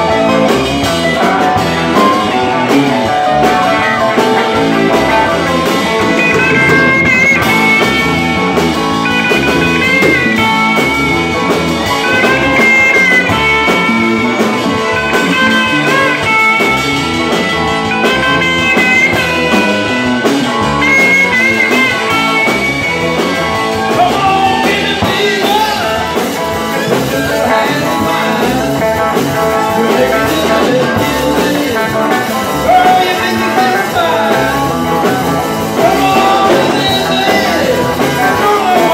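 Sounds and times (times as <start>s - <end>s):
electric guitar lead: 0.0s - 38.9s
rock band playing: 0.0s - 38.9s.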